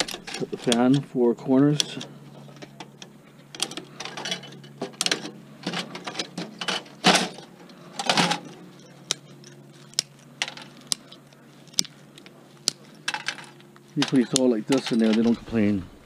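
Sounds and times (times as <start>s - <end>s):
computer parts clicking and rattling: 0.0s - 1.0s, 1.7s - 15.7s
low steady hum: 0.0s - 16.0s.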